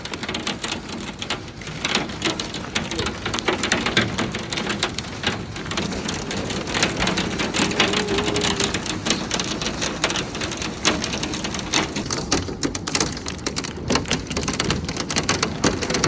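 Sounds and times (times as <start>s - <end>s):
hailstones pelting: 0.0s - 16.0s
rush of rain: 0.0s - 16.0s.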